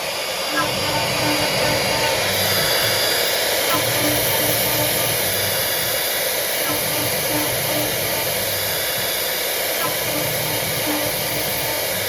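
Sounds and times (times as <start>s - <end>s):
cnc router hissing: 0.0s - 12.0s.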